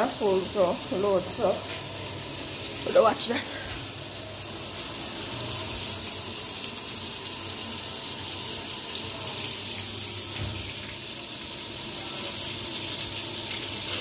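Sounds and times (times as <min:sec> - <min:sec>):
water running in pipes: 0:00.0 - 0:14.0.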